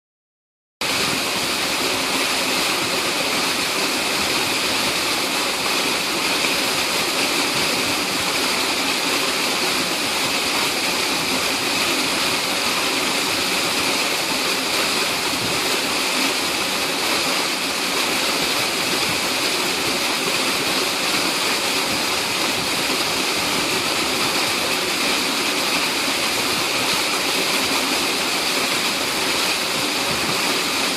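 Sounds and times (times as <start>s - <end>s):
small waterfall rushing: 0.8s - 30.9s.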